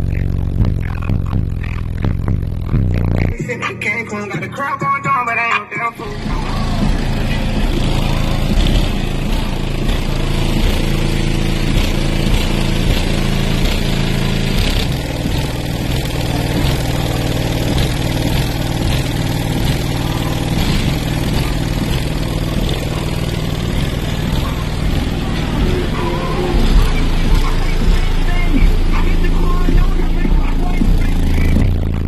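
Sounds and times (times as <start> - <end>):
subwoofer bass drone: 0.0 - 32.0.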